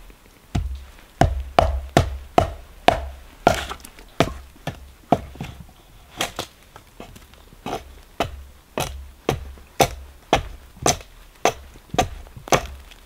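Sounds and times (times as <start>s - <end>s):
hatchet chopping wood: 0.5s - 5.6s, 6.2s - 13.0s.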